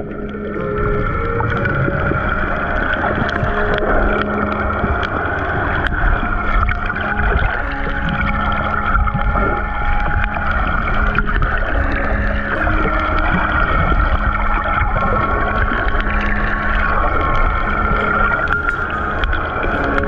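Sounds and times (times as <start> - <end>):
ambient synth music: 0.0 - 20.0
low rumble and hiss: 0.0 - 20.0.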